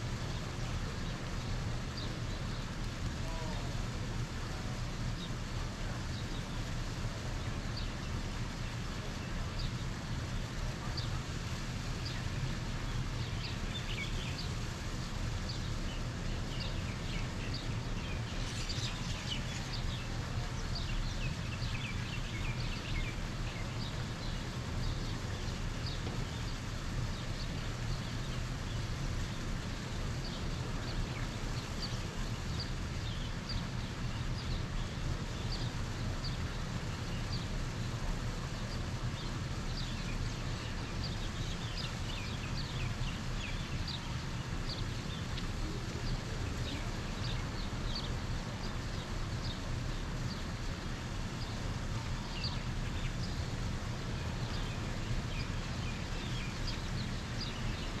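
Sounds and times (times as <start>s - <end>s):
low outdoor rumble: 0.0s - 58.0s
birds chirping: 5.9s - 58.0s.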